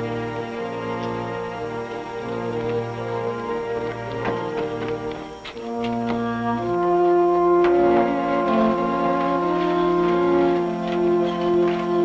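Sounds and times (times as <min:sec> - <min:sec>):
music with sustained chords: 0:00.0 - 0:12.0.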